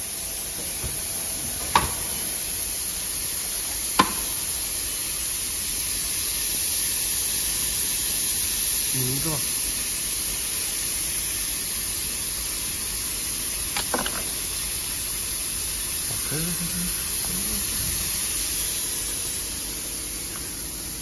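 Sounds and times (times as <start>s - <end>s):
bottling line hissing: 0.2s - 21.0s.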